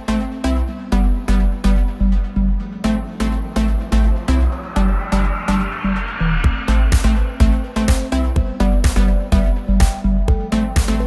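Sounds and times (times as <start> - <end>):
electronic dance music: 1.4 - 11.0.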